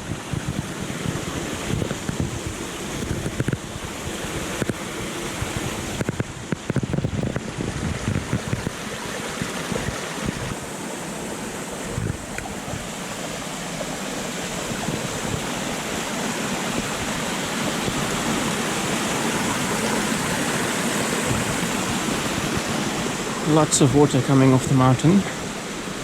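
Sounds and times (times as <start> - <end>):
wind buffeting microphone: 0.0 - 10.6, 11.5 - 24.1
stream rushing: 0.0 - 26.0.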